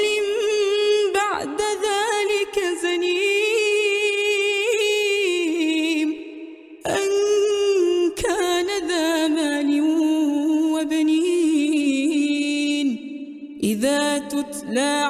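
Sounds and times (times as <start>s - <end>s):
woman chanting melodically: 0.0s - 15.0s.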